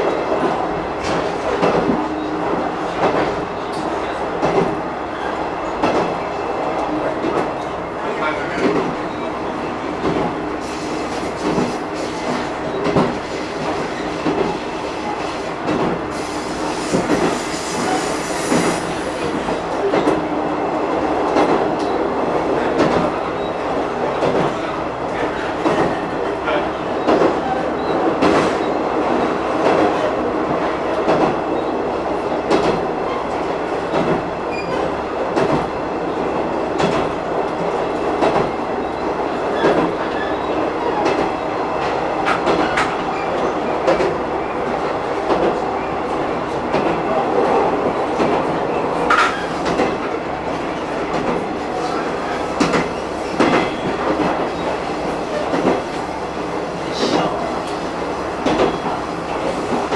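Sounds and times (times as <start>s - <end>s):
railcar running rumble: 0.0s - 59.9s.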